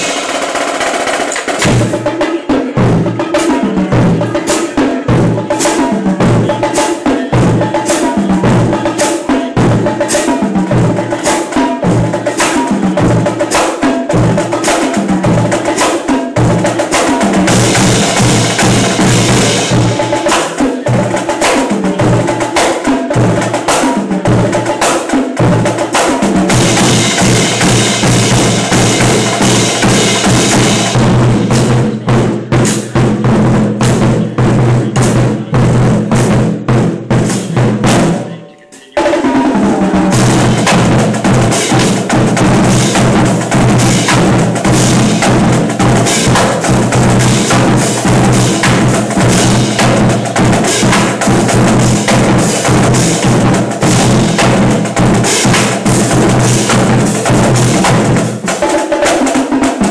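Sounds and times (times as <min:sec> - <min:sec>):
snare and bass drum cadence: 0:00.0 - 0:59.9.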